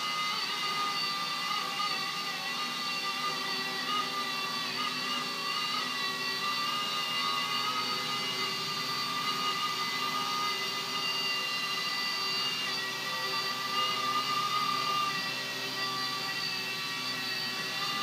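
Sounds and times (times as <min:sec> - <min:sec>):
toy helicopter rotor whine: 0:00.0 - 0:18.0.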